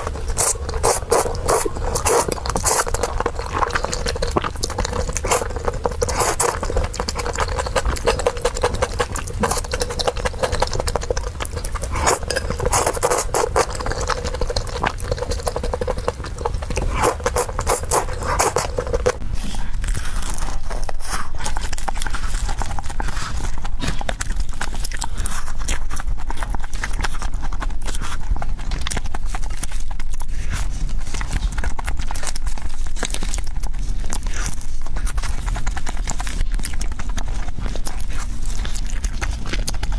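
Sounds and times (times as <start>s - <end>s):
fast chewing with mouth clicks: 0.0s - 39.9s.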